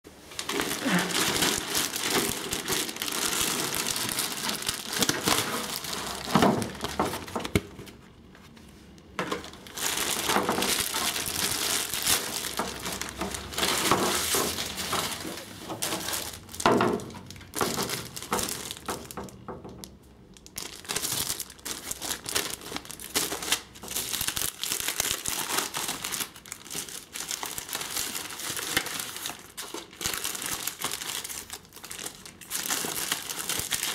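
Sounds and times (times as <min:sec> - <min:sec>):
plastic packaging crinkling: 0:00.1 - 0:33.9.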